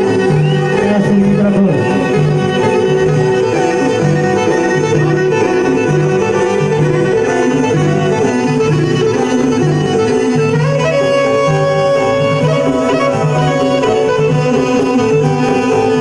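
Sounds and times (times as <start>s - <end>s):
accordion: 0.0s - 16.0s
clarinet melody: 0.0s - 16.0s.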